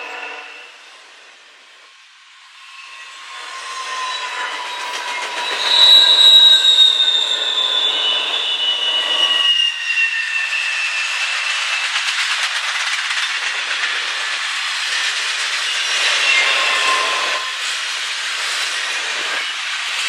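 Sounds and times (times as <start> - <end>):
rumble of train cars: 0.0 - 20.0
train wheels squealing: 0.0 - 20.0.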